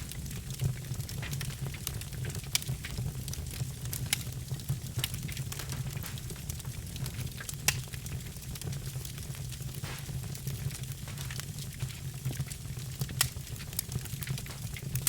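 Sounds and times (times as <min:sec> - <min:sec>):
fire crackles and pops: 0:00.0 - 0:15.0
fire rumble: 0:00.0 - 0:15.0.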